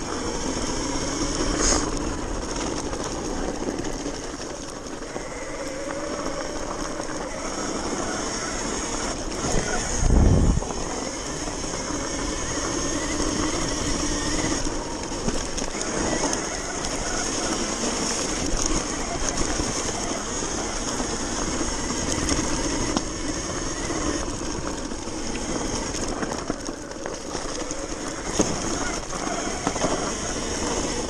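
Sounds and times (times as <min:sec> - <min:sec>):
electric motor whine: 0:00.0 - 0:31.0
wind and tyre noise: 0:00.0 - 0:31.0.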